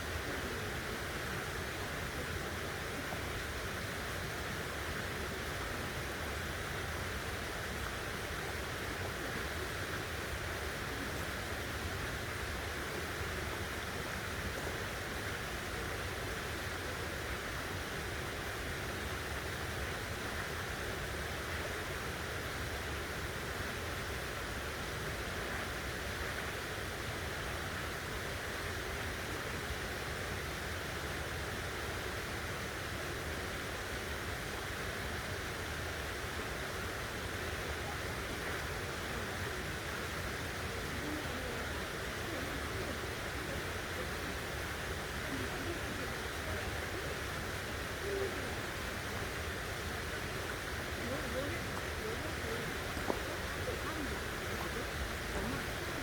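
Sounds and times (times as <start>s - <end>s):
forest ambience rushing hiss: 0.0s - 56.0s.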